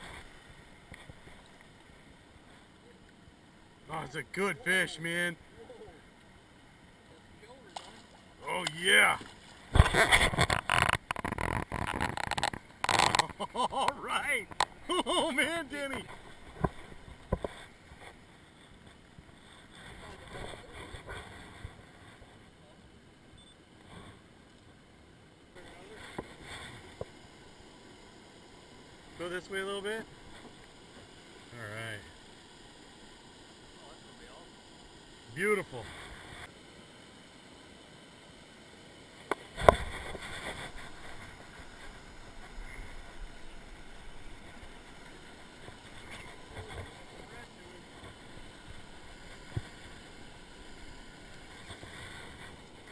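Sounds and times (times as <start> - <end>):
waterfall and river rushing: 0.0 - 13.2, 13.9 - 18.4, 25.5 - 52.9
soft steady hiss: 0.0 - 52.9.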